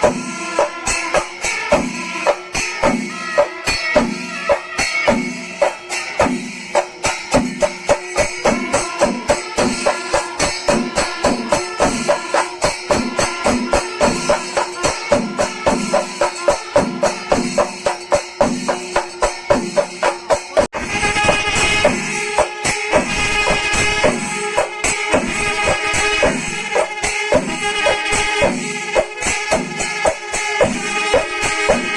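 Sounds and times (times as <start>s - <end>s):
cymbals clashing: 0.0s - 31.9s
drums beating: 0.0s - 31.9s.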